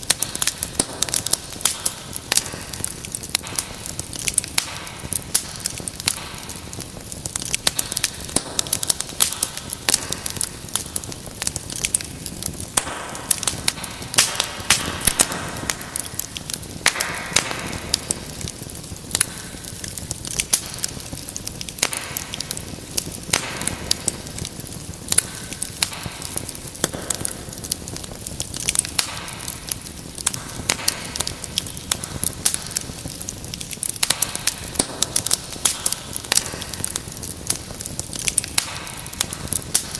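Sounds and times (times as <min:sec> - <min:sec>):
hiss of flames: 0:00.0 - 0:39.9
wood fire crackling and popping: 0:00.0 - 0:39.9.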